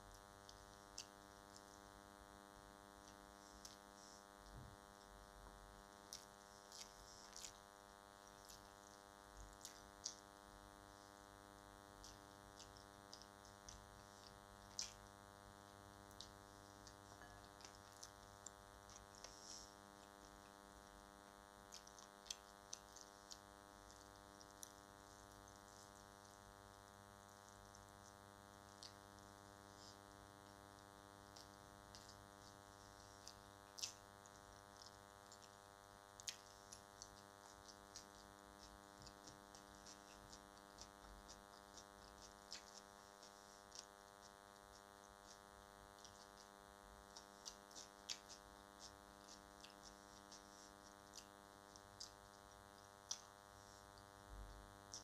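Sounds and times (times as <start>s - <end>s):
mouth clicks and smacks eating: 0.0s - 55.0s.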